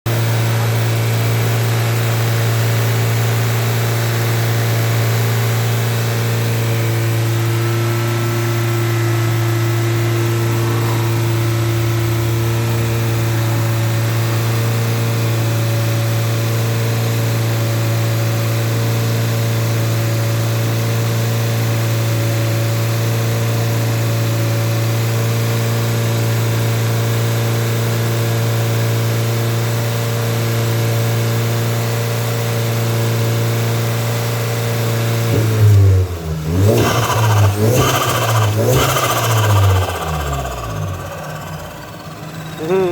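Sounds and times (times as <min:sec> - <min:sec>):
car engine idling and revving: 0:00.1 - 0:42.9.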